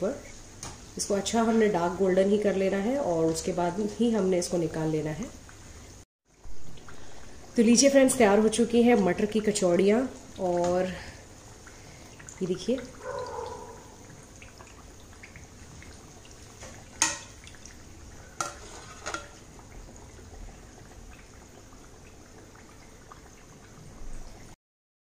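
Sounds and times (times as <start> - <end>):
food deep-frying in oil: 0.0 - 24.6.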